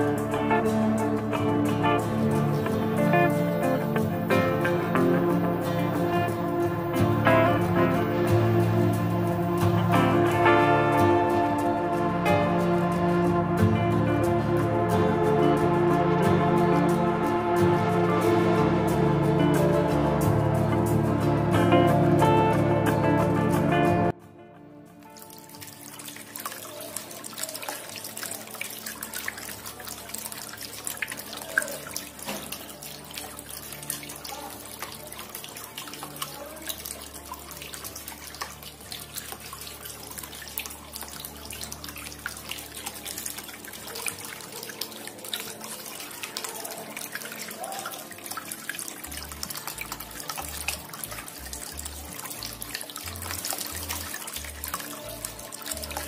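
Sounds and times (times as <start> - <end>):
fountain water splashing: 0.0 - 24.1, 25.0 - 56.0.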